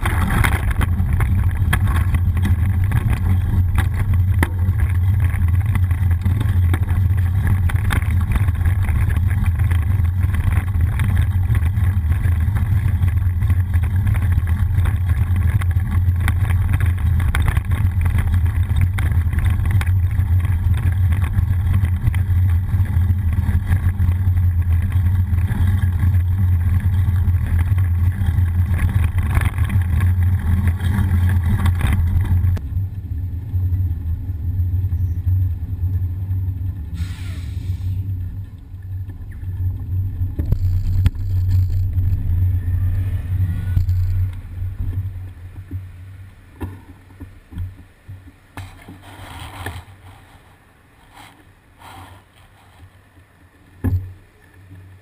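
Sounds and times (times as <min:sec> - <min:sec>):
small rattles from bumps: 0:00.0 - 0:33.8, 0:38.1 - 0:42.6, 0:43.3 - 0:55.0
wind and road rumble: 0:00.0 - 0:55.0.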